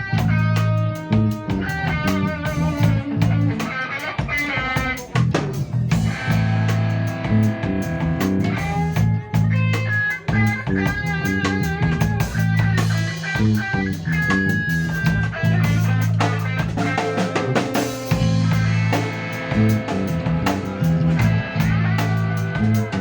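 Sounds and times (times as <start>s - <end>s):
bass guitar: 0.0s - 23.0s
drum kit with rimshots: 0.0s - 23.0s
guitar lines: 0.0s - 23.0s.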